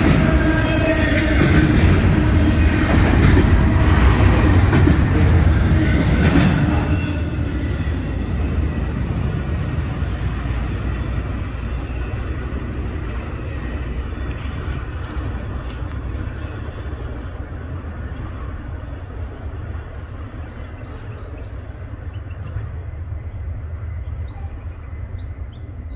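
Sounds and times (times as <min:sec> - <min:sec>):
freight train cars rumbling: 0:00.0 - 0:25.9.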